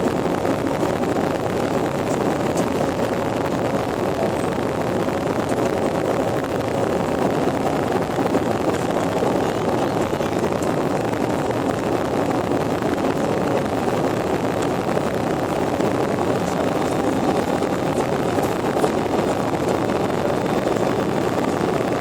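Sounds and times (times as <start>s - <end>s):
jet engine rush in cabin: 0.0s - 22.0s.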